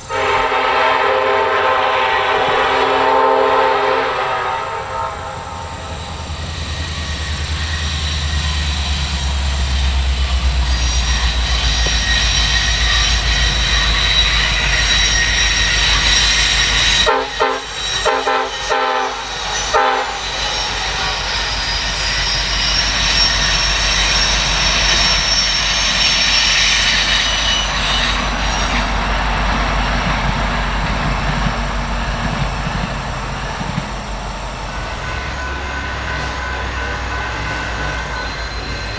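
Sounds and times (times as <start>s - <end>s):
diesel train passing: 0.0s - 38.9s
wheels on rails: 0.0s - 38.9s.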